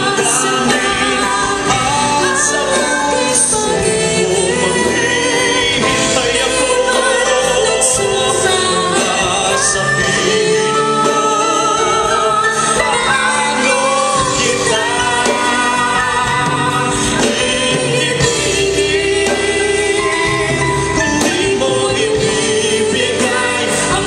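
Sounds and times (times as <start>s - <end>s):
live band playing a ballad: 0.0s - 24.0s.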